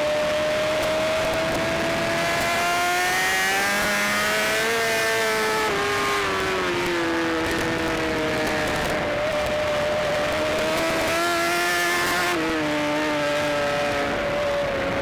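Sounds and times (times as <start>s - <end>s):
racing motorcycle engine: 0.0s - 15.0s.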